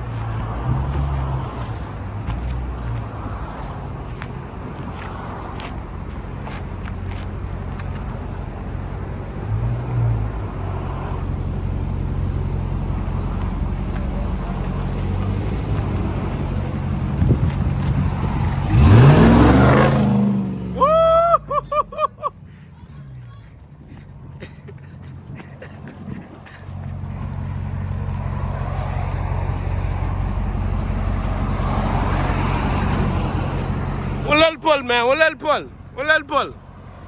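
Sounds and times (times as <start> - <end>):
truck engine revving: 0.0 - 22.1, 24.2 - 37.0.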